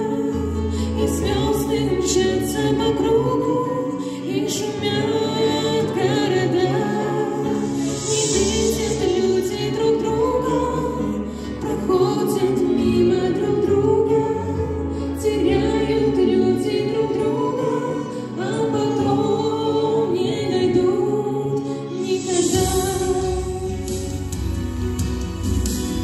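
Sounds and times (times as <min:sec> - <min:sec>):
man and woman singing duet: 0:00.0 - 0:24.3
musical accompaniment: 0:00.0 - 0:26.0.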